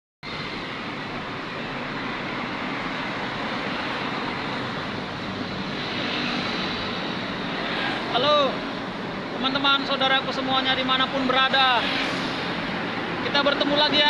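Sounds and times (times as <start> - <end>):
road traffic under overpass: 0.2 - 14.0.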